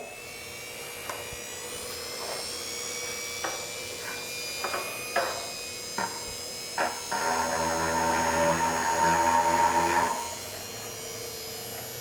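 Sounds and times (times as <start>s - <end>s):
rotary tool whining: 1.0s - 12.0s.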